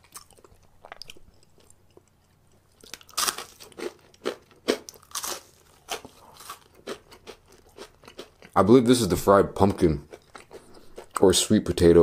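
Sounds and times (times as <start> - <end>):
crunchy fried food chewing: 0.0 - 8.9, 9.6 - 11.5.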